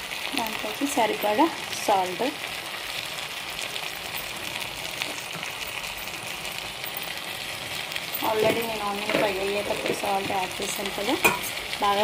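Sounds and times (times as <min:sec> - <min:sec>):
food sizzling in oil: 0:00.0 - 0:12.0
faint crackles: 0:00.1 - 0:12.0.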